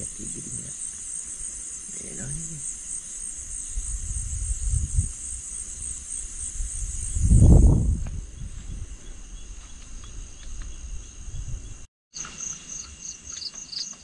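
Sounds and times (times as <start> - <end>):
night insects chirping: 0.0 - 14.0.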